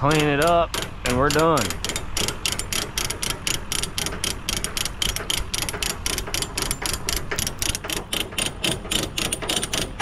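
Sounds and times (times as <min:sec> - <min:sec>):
ratchet pawl clicking: 0:00.0 - 0:10.0.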